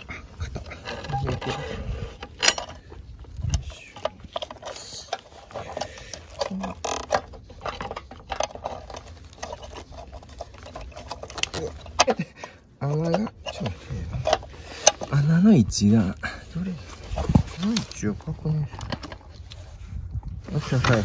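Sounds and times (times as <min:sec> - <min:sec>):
metal parts clicking and scraping: 0:00.0 - 0:19.8.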